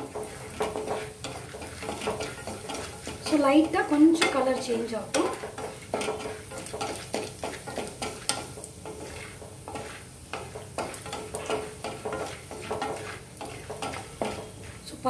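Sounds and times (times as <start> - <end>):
light frying sizzle: 0.0 - 15.0
wooden spatula scraping metal pan: 0.0 - 15.0.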